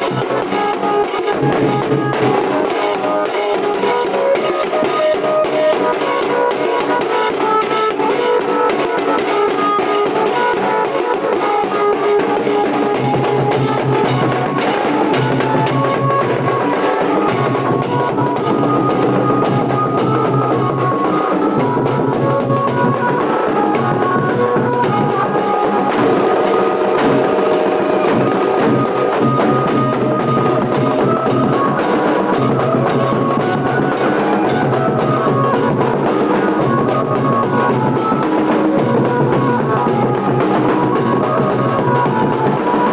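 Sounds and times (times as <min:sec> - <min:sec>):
drums beating dense rhythm: 0:00.0 - 0:42.9
melody line over drums: 0:00.0 - 0:42.9.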